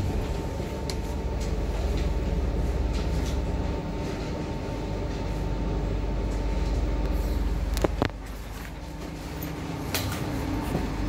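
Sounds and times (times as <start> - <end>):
faint constant whine: 0.0 - 11.0
train wheels rumbling: 0.0 - 11.0.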